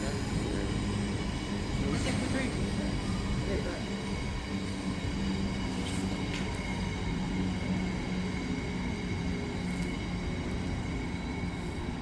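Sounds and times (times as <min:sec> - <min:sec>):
train rolling on rails: 0:00.0 - 0:12.0.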